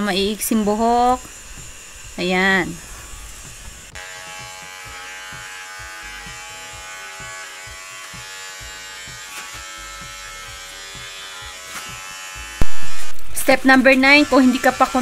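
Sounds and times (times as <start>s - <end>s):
electric hair clipper buzzing: 0.0s - 15.0s.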